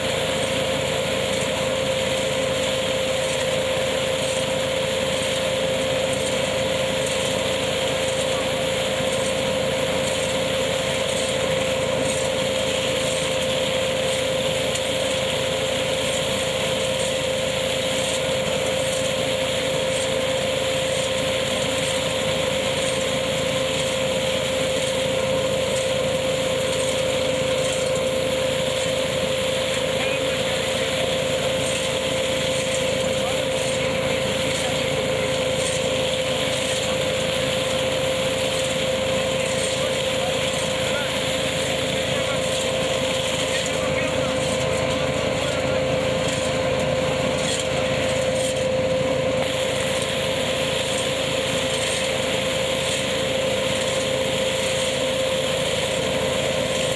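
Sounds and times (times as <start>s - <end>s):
picking machine running: 0.0s - 56.9s
tractor engine: 0.0s - 56.9s.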